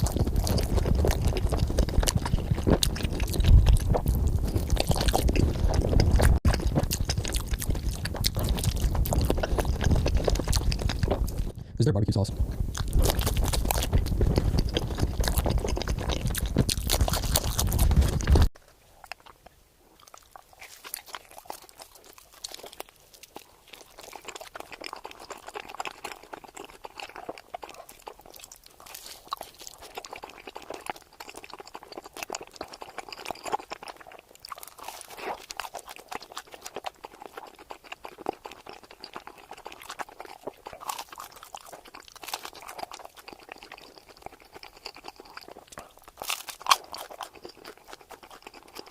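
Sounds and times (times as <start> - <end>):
pizza crunching and chewing: 0.0 - 48.9.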